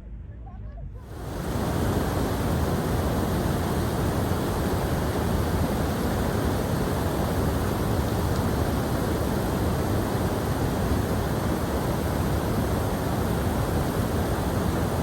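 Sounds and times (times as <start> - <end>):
rushing water: 1.1 - 15.0.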